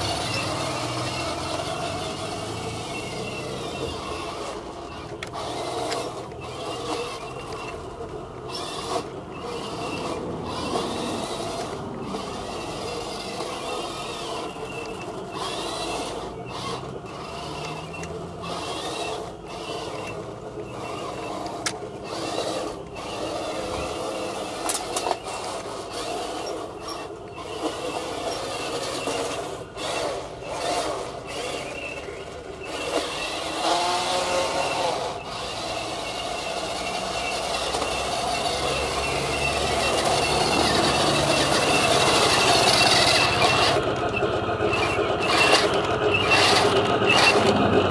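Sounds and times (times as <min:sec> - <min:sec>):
gears clicking and rattling: 0:00.0 - 0:47.9
toy tank motor whirring: 0:00.0 - 0:47.9.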